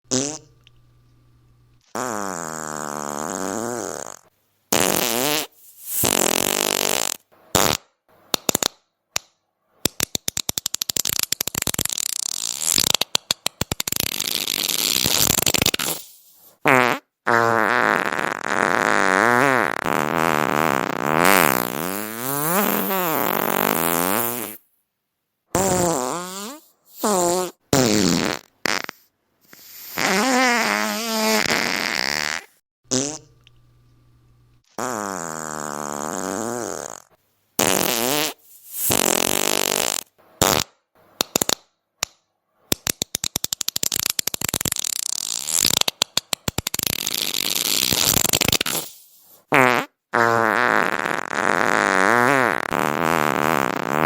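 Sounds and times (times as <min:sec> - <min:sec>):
fart sounds: 0:00.1 - 0:00.6, 0:01.9 - 0:08.9, 0:09.8 - 0:24.7, 0:25.5 - 0:33.4, 0:34.7 - 0:41.7, 0:42.7 - 0:54.0.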